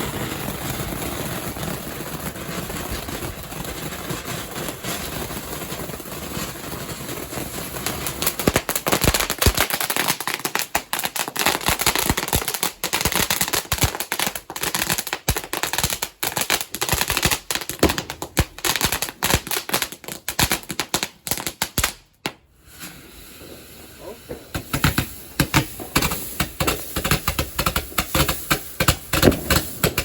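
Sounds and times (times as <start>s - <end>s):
fireworks cracking and banging: 0.0s - 30.0s.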